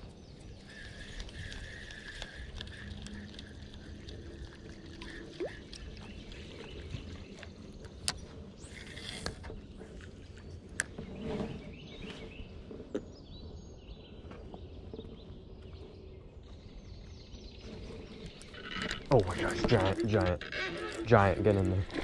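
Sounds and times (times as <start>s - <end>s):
low boat background noise: 0.0s - 22.0s.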